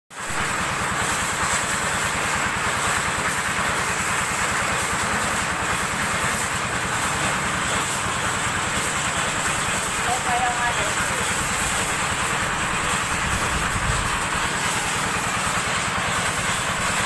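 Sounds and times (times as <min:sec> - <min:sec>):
helicopter engine rattling: 0:00.8 - 0:17.0.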